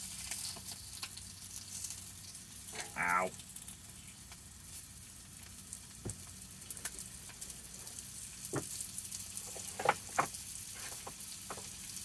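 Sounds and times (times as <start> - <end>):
crackling sizzling hiss: 0.0 - 12.0.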